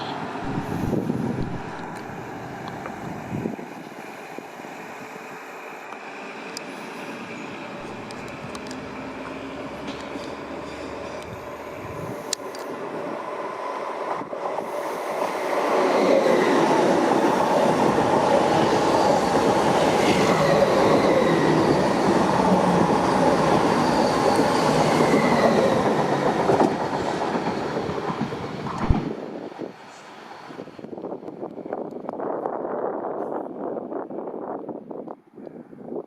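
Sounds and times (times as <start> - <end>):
train passing: 0.0 - 31.8.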